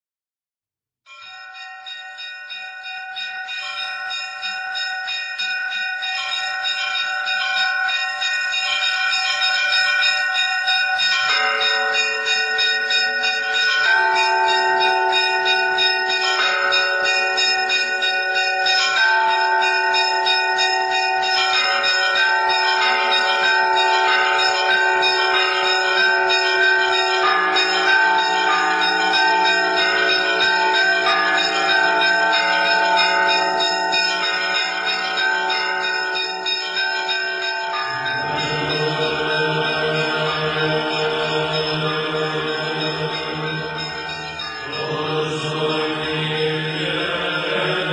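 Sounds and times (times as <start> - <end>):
church bells ringing: 1.1 - 47.9.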